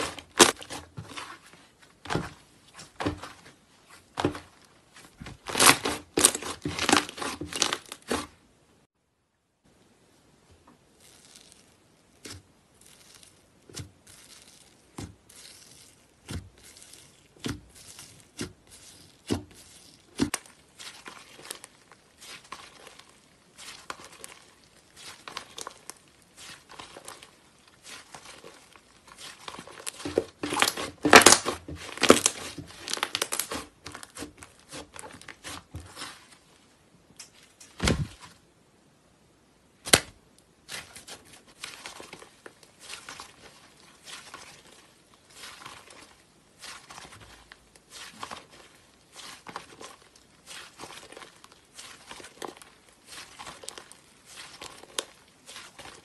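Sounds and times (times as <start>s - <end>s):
slime crackling: 0.0s - 8.4s, 10.8s - 36.6s, 39.8s - 56.0s.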